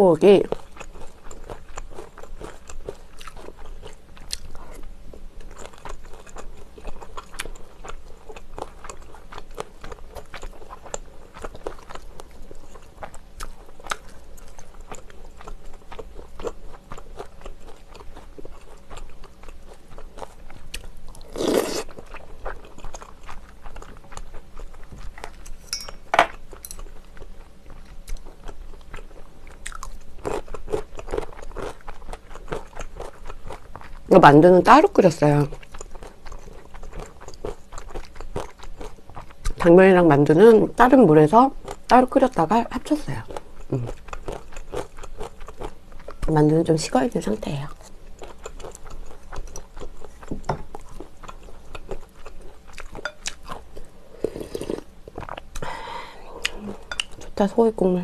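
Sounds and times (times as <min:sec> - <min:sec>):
chewing food: 0:00.2 - 0:57.4.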